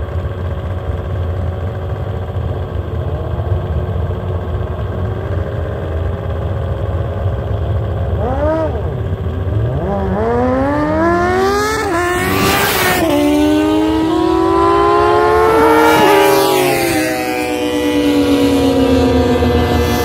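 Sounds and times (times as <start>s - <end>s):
motorcycle accelerating with upshifts: 0.0s - 20.0s.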